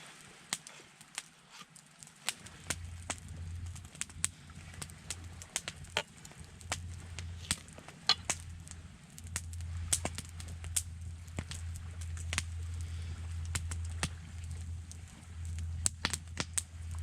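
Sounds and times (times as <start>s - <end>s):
campfire crackling: 0.0s - 17.0s
low steady hum: 0.0s - 17.0s.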